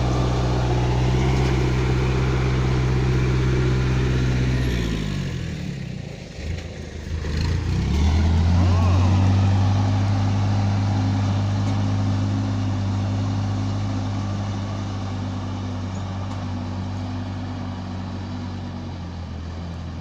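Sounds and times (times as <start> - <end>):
farm machine engine droning: 0.0 - 20.0.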